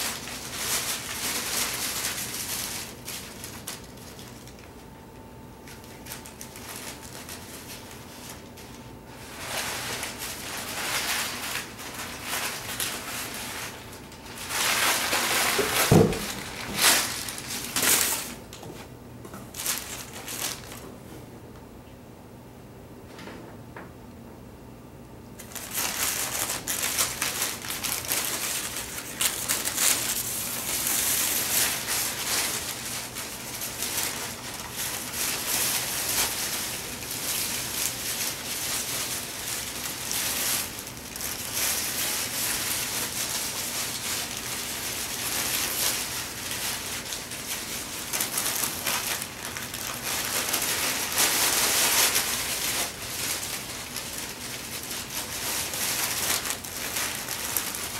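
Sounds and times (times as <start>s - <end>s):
packing paper crinkling: 0.0s - 21.0s, 25.4s - 57.9s.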